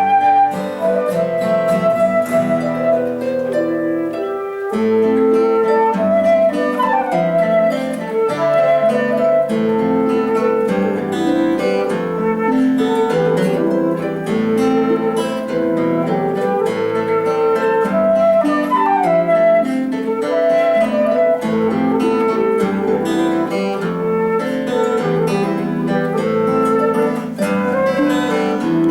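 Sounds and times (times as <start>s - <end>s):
plucked harp: 0.0s - 19.6s, 20.5s - 28.9s
flute melody: 0.0s - 28.9s.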